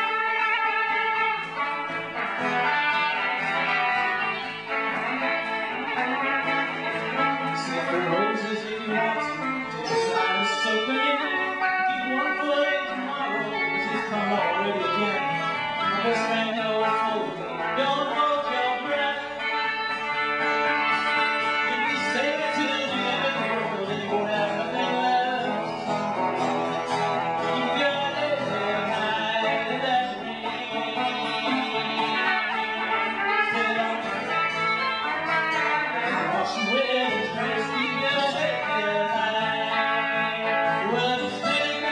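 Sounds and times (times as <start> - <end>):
guitar playing: 0.0 - 41.9
person singing melody: 0.0 - 41.9.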